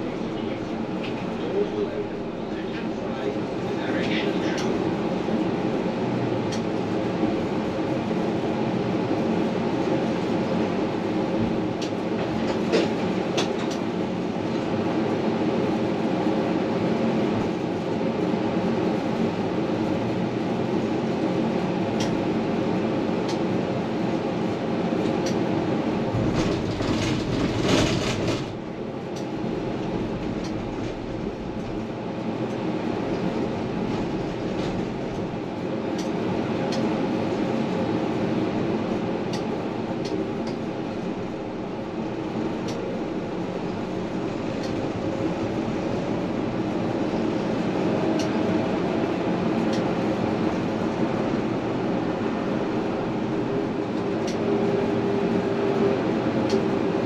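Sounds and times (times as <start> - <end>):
tram running on rails: 0.0 - 57.0.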